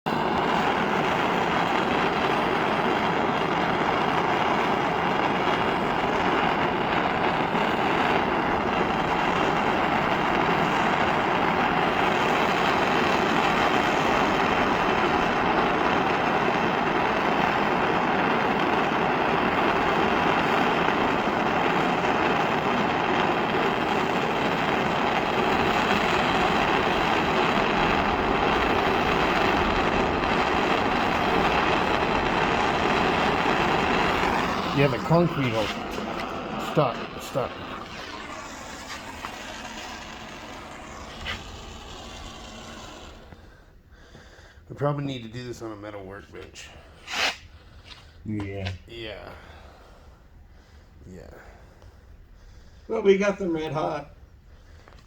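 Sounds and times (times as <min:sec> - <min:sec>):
butane torch flame hissing: 0:00.1 - 0:55.0.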